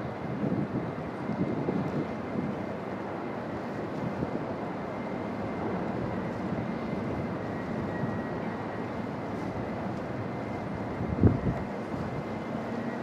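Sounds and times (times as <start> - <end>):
diesel train rumbling: 0.0 - 13.0
faint high whine: 2.1 - 13.0.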